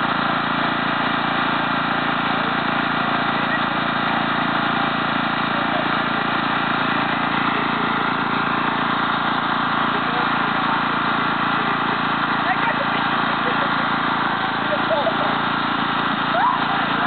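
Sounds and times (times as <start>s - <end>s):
lawn mower engine idling: 0.0s - 17.0s.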